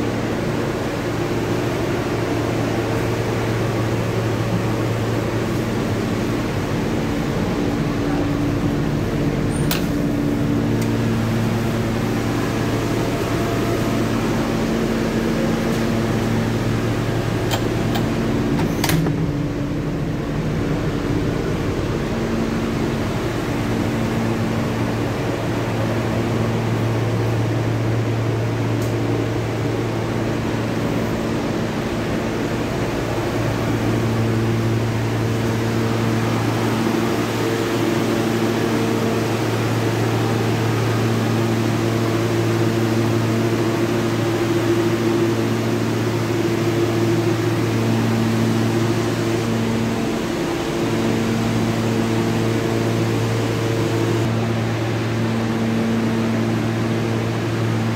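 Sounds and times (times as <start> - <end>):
subway car air conditioning hum: 0.0 - 57.9.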